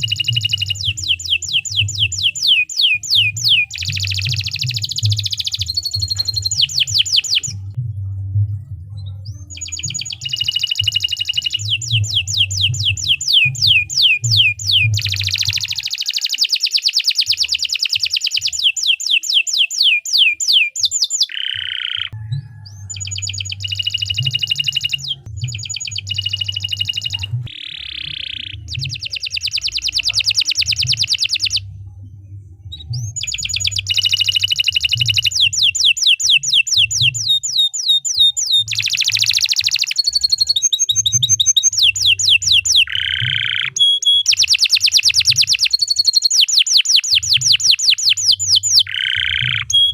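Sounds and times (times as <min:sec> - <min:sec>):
canary singing trills: 0:00.0 - 0:07.8, 0:09.1 - 0:49.9.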